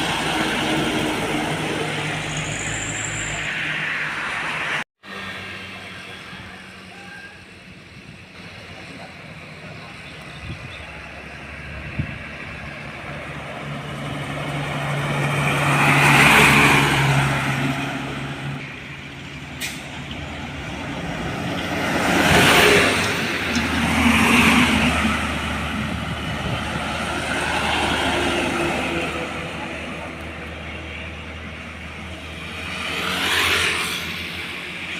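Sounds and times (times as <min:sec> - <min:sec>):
heavy trucks passing: 0:00.0 - 0:34.9.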